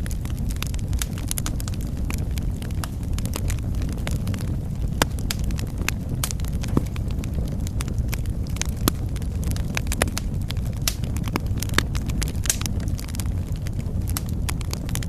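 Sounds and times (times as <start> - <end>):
fire flames rumbling: 0.0 - 15.0
fire pops and crackles: 0.0 - 15.0.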